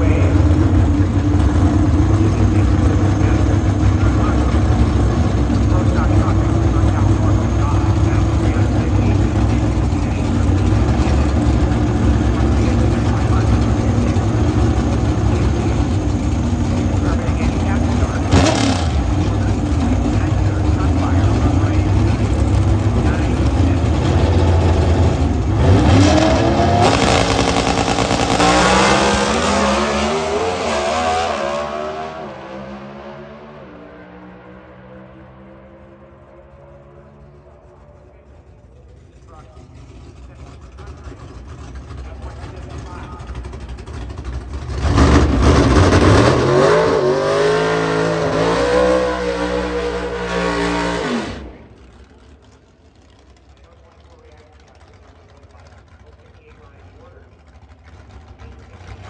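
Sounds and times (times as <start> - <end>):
tires spinning: 0.0 - 32.4, 36.6 - 56.3
drag car engines revving: 0.0 - 59.0
drag cars accelerating away: 0.0 - 59.0.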